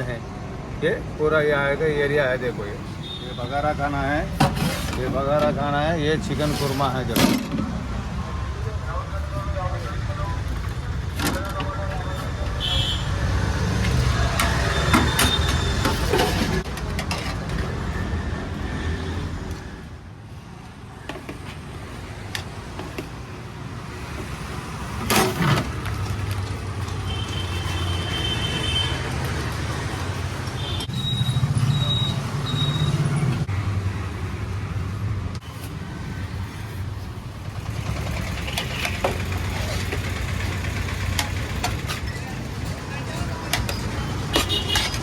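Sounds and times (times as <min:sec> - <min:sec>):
passing vehicle engines rumbling: 0:00.0 - 0:20.6, 0:21.6 - 0:45.0.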